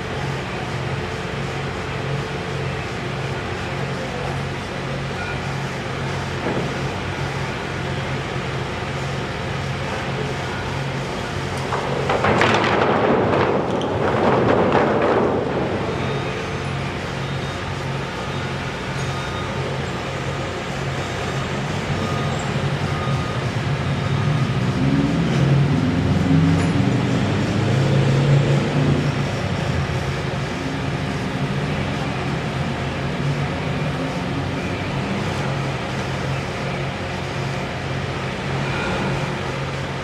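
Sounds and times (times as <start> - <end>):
engine running with low hum: 0.0 - 40.0.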